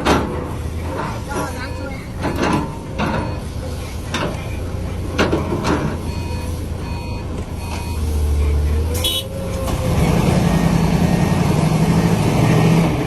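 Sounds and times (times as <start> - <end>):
heavy diesel engines droning: 0.0 - 13.0.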